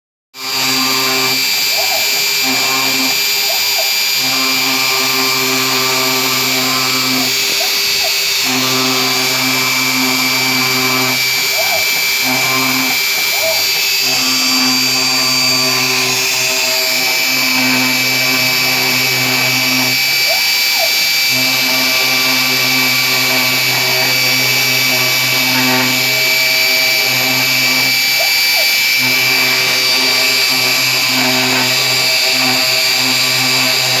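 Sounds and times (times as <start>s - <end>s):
router spindle whine: 0.4s - 34.0s
stepper motors humming: 0.4s - 34.0s.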